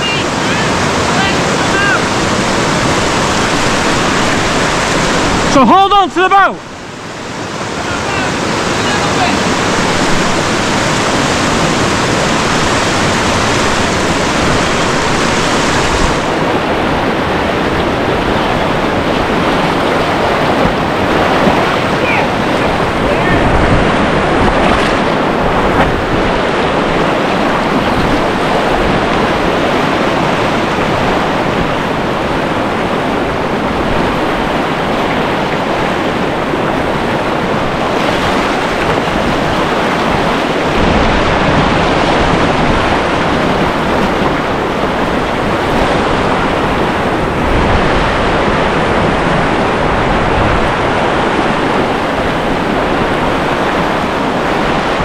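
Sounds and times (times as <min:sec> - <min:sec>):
whitewater rapid rushing: 0:00.0 - 0:55.0.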